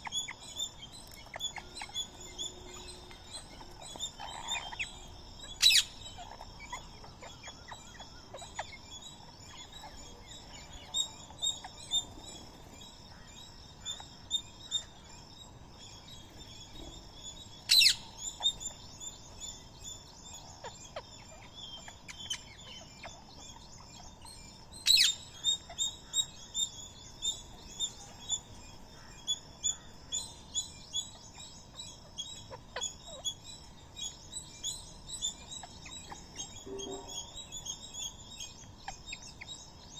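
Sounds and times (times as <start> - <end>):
shrill bird calls: 0.0 - 15.1, 16.0 - 39.9
birds chirping and twittering: 0.0 - 39.9.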